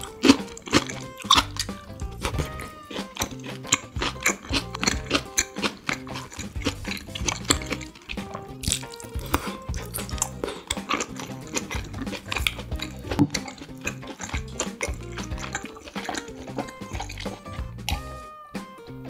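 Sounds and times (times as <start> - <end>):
chopsticks tapping: 0.0 - 18.1
close-up chewing and mouth smacks: 0.0 - 18.2
light background music: 0.0 - 19.0.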